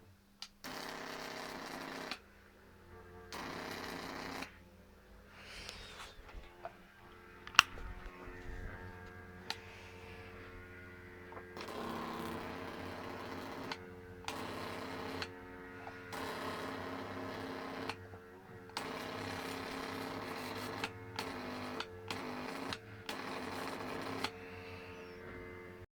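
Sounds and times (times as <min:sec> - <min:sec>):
high-voltage arc buzzing: 0:00.0 - 0:25.9
transformer humming: 0:00.8 - 0:25.8.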